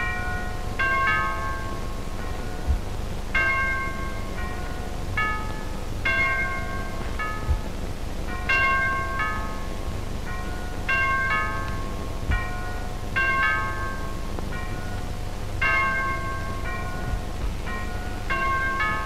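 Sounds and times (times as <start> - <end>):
church bells ringing: 0.0 - 19.0
old recording hum and crackle: 0.0 - 19.0.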